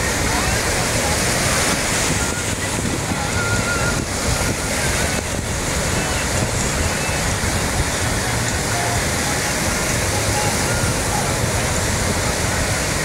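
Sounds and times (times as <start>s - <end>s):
small waves breaking on beach: 0.0s - 13.0s.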